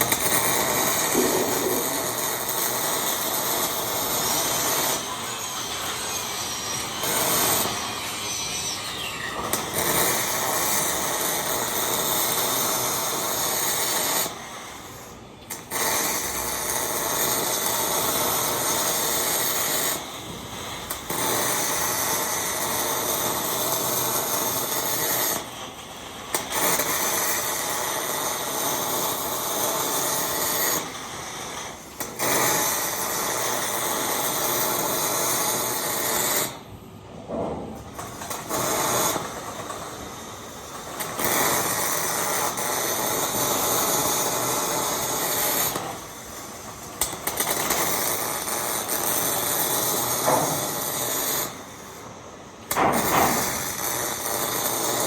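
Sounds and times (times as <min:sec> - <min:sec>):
welding arc crackling and hissing: 0:00.0 - 0:55.0.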